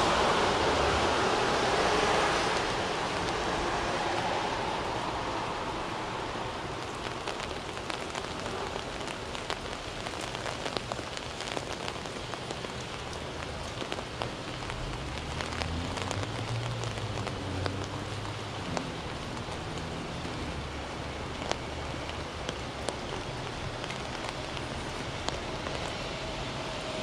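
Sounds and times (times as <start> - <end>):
raindrops ticking on umbrella: 0.0 - 27.0
rushing wash: 0.0 - 27.0.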